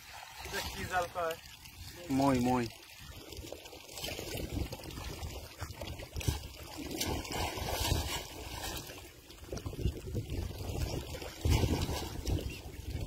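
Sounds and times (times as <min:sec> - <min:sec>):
shallow water sloshing and splashing: 0:00.0 - 0:13.0.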